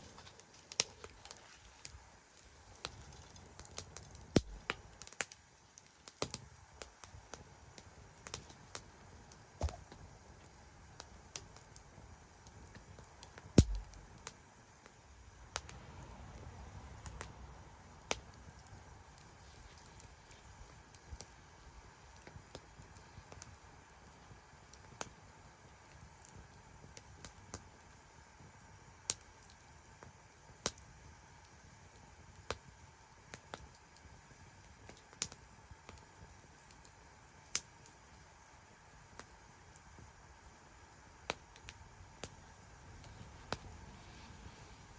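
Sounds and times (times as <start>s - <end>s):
faint steady hiss: 0.0s - 44.9s
wood fire popping and snapping: 0.0s - 44.9s.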